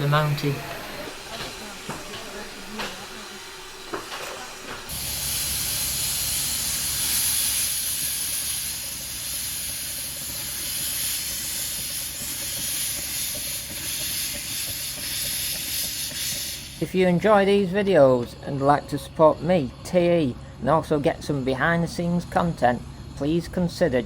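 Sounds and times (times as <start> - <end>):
steam locomotive hissing: 0.0 - 22.2.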